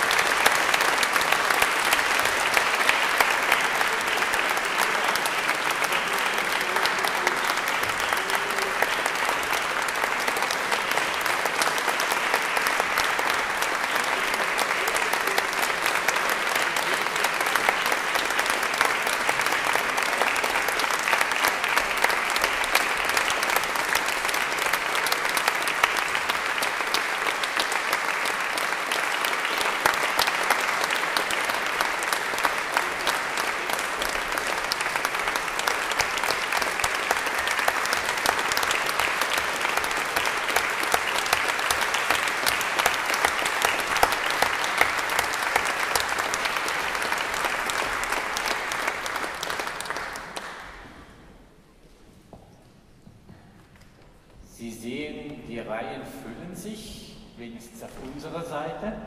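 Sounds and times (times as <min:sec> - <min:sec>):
audience applauding: 0:00.0 - 0:51.4.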